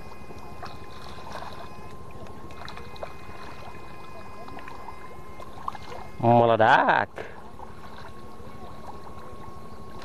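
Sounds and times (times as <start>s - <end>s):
electronic whine: 0.0s - 10.0s
low steady rumble: 0.0s - 10.0s.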